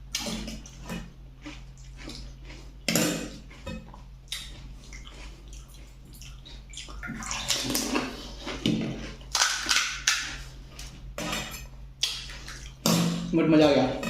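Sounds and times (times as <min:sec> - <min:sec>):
wet crunching and slurping: 0:00.0 - 0:13.3.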